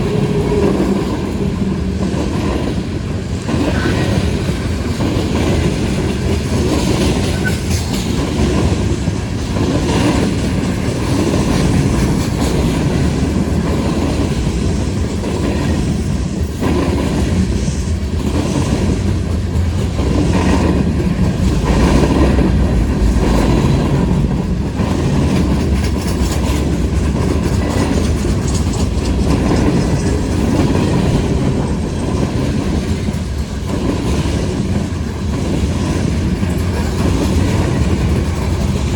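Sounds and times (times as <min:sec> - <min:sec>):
freight train rumble: 0:00.0 - 0:38.9
train wheels clacking: 0:00.0 - 0:38.9.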